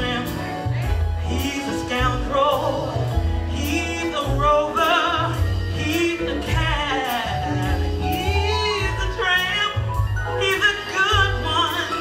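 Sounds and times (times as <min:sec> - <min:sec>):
band accompaniment: 0:00.0 - 0:12.0
woman singing soul song: 0:00.0 - 0:12.0.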